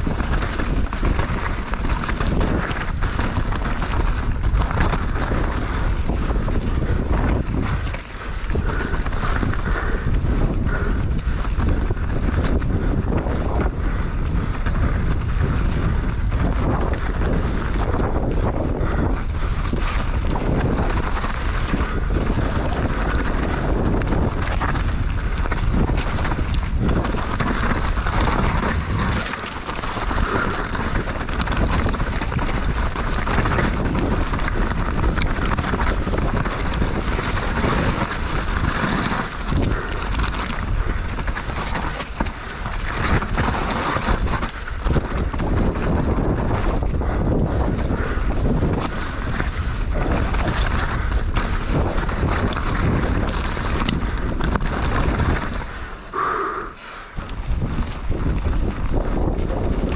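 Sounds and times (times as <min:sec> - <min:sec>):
bike rattling over bumps: 0:00.0 - 0:59.9
tyres crunching over stony dirt: 0:00.0 - 0:59.9
wind buffeting microphone: 0:00.0 - 0:59.9.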